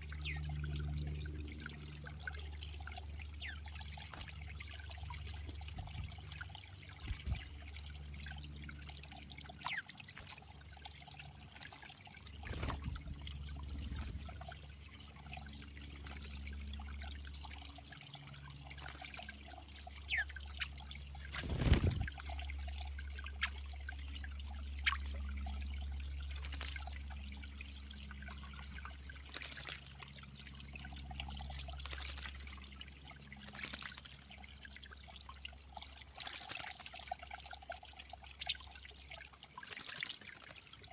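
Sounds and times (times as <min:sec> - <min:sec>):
water trickling into pond: 0:00.0 - 0:40.9.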